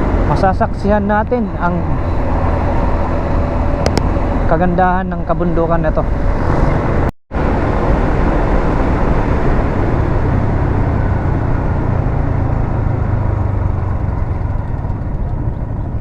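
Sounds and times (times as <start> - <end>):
road and wind noise: 0.0 - 16.0
vehicle engine drone: 0.0 - 16.0.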